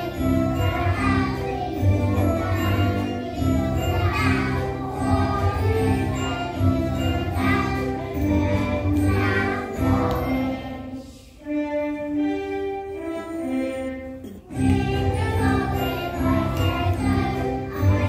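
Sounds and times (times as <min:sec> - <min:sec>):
children singing: 0:00.0 - 0:18.0
instrumental music accompaniment: 0:00.0 - 0:18.0.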